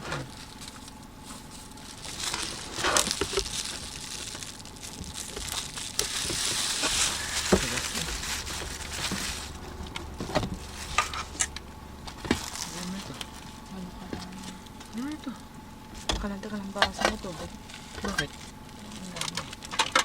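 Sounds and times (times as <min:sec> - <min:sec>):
plastic packaging crinkling: 0:00.2 - 0:20.0.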